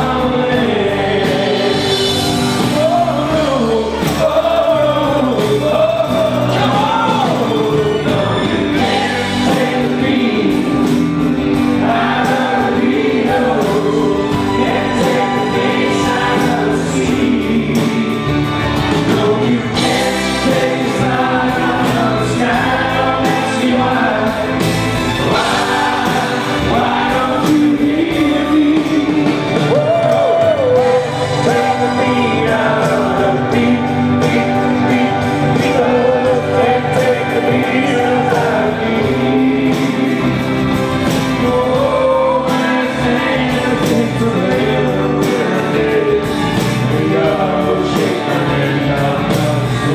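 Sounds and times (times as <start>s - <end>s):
man singing: 0.0s - 49.9s
pop-rock band playing: 0.0s - 49.9s.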